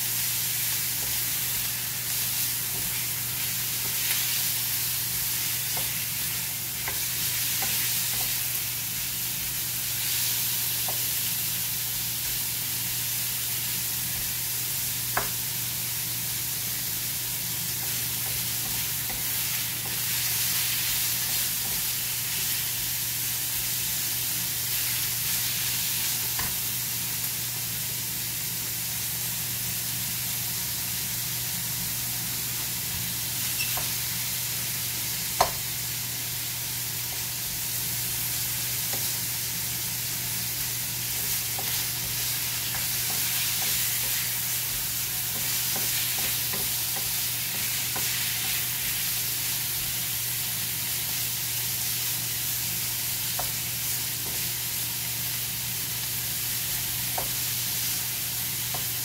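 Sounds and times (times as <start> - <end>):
meat sizzling in a frying pan: 0.0 - 59.0.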